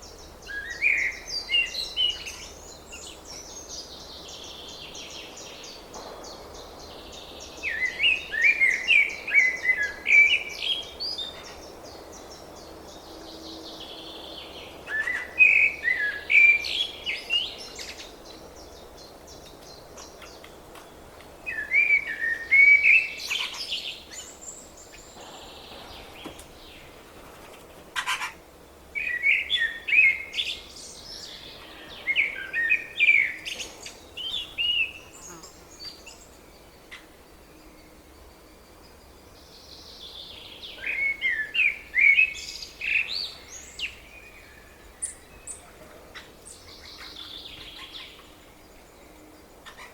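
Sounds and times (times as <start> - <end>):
faint background hiss: 0.0 - 49.9
songbird singing: 0.0 - 49.9.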